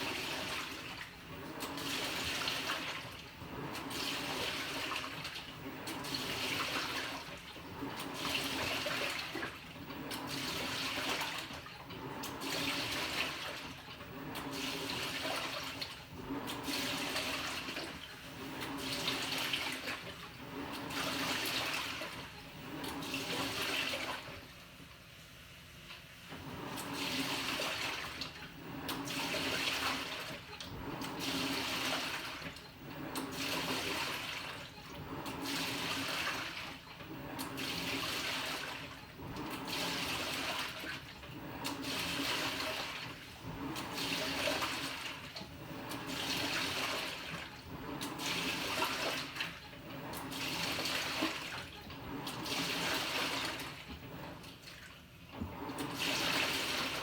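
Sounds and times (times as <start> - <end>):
washing machine water sloshing: 0.0 - 25.0, 25.9 - 57.0.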